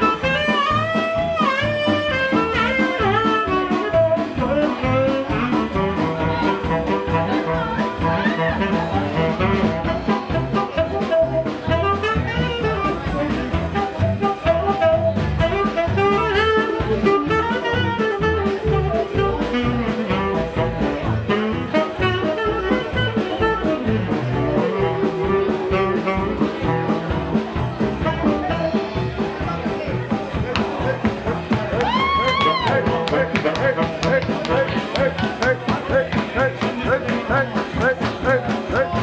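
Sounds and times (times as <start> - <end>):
bass: 0.0 - 39.0
drum kit beat: 0.0 - 39.0
horns playing swing melody: 0.0 - 39.0.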